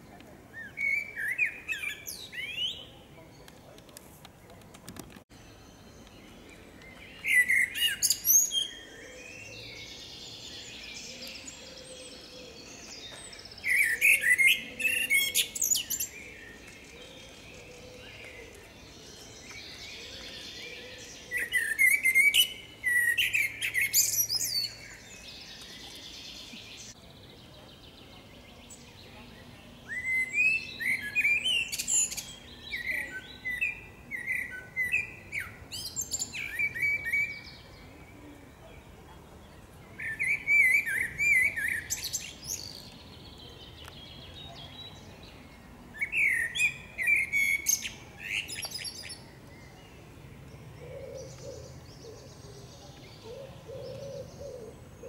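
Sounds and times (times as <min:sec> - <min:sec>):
blackbird singing: 0:00.5 - 0:03.6, 0:05.4 - 0:55.0.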